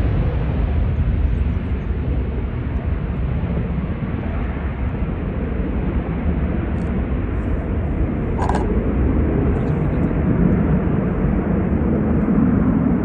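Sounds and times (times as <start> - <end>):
airplane engine rumble: 0.0 - 13.0.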